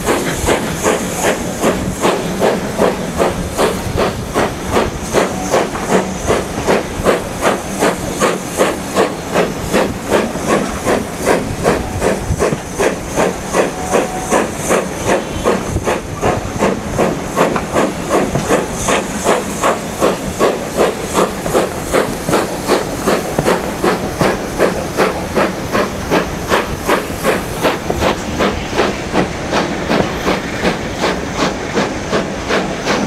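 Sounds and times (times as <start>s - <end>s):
steam locomotive exhaust beating: 0.0s - 33.0s.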